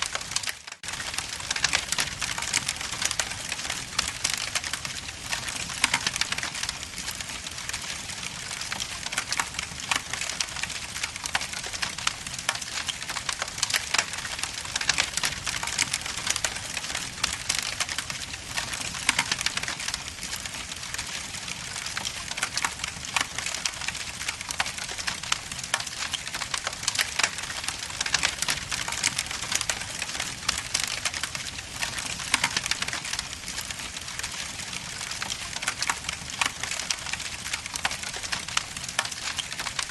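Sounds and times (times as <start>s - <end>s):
wood crackling and popping: 0.0s - 39.9s.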